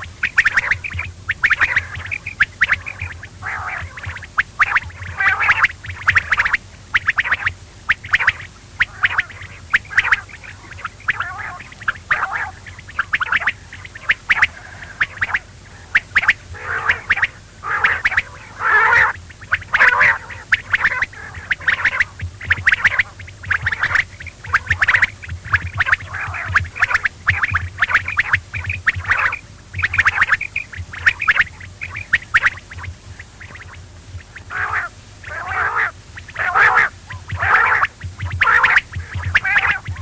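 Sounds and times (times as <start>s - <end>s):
low hum: 0.0s - 40.0s
quail calling: 0.0s - 40.0s.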